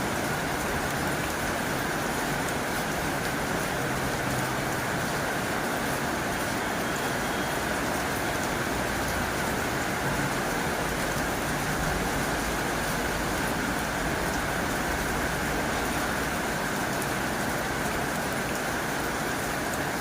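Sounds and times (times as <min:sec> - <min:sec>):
heavy rain on a tin roof: 0:00.0 - 0:20.0.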